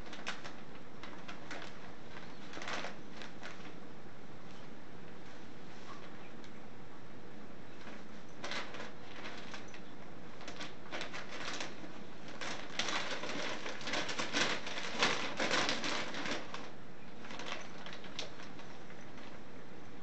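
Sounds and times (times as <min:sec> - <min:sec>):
paper crinkling and rustling: 0:00.0 - 0:06.2, 0:07.8 - 0:19.6.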